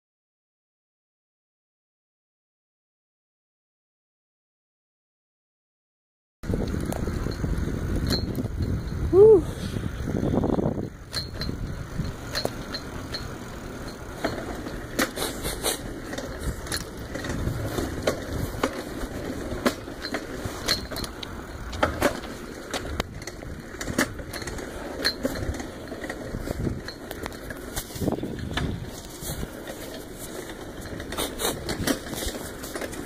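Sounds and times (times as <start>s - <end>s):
bicycle clicks and rattles: 6.4s - 33.0s
bicycle tyres rumbling on concrete: 6.4s - 33.0s.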